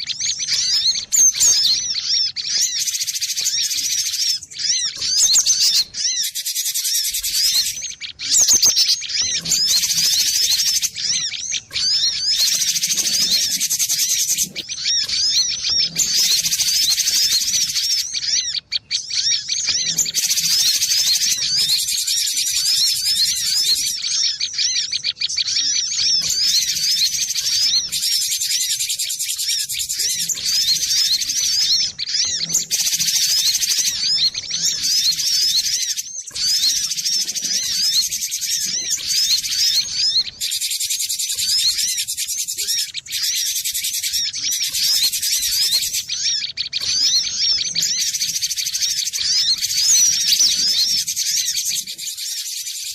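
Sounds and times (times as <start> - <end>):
bird singing rapid high chirps: 0.0 - 52.9.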